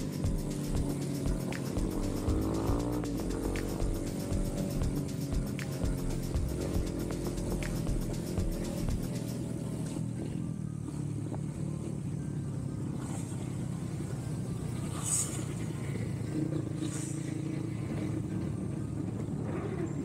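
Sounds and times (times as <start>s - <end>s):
motorcycle engine humming: 0.0s - 20.0s.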